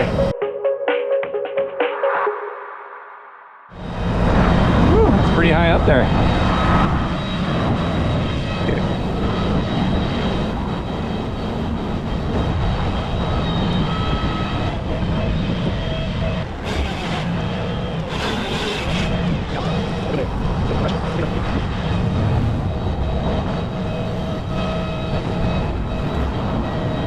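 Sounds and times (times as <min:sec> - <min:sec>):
heavy engine droning: 0:03.8 - 0:27.0.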